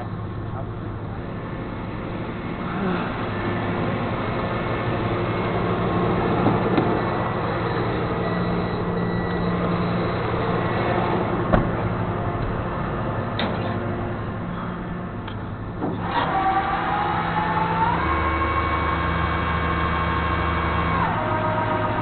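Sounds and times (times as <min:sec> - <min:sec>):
tow truck engine drone: 0:00.0 - 0:22.0.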